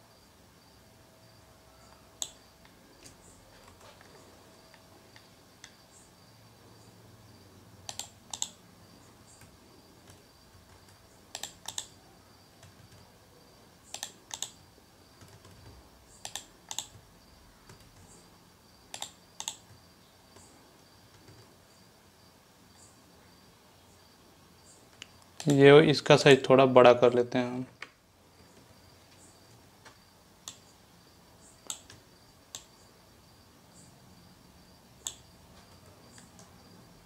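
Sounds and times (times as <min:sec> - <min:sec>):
faint high whine: 0:00.0 - 0:37.0.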